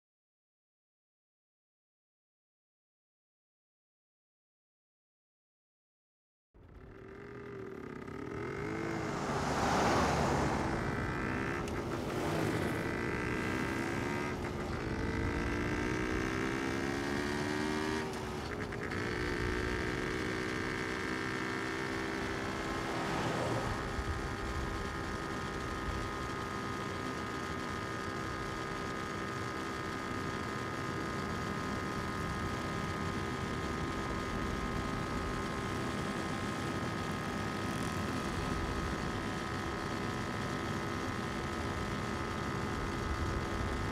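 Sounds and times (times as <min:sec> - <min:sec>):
car engine and road hum: 0:06.6 - 0:43.9.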